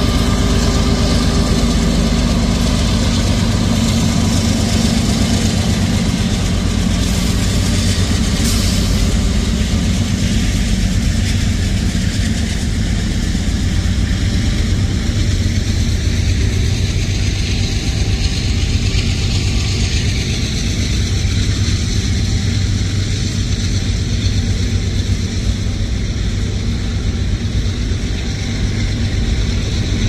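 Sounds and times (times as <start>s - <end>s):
diesel locomotive engines droning: 0.0s - 30.0s
freight cars rumbling on rails: 0.0s - 30.0s.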